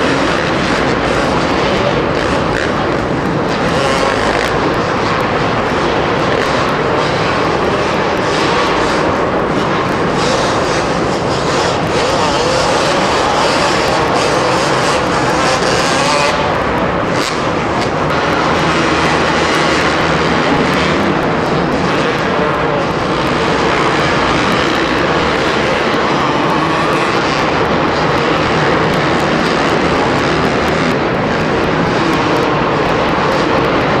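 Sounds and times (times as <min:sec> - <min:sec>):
motocross bike engines: 0:00.0 - 0:34.0.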